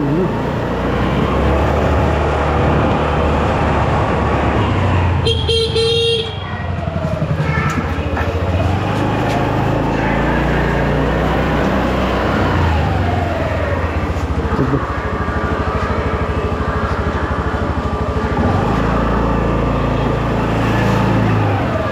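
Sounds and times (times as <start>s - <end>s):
faint traffic: 0.0s - 21.9s
motorcycle engine running: 0.0s - 21.9s.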